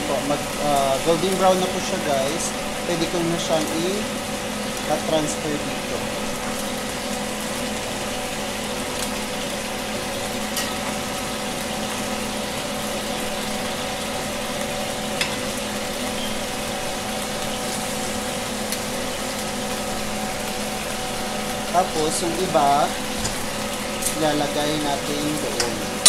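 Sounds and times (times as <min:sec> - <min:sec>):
meat frying in hot oil: 0:00.0 - 0:26.0.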